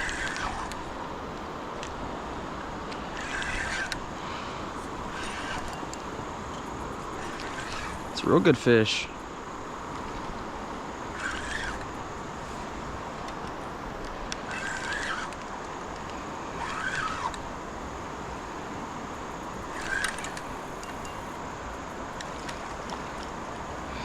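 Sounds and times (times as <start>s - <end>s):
fishing reel drag buzzing: 0.0s - 1.6s, 2.6s - 24.0s
steady hiss: 0.0s - 24.0s.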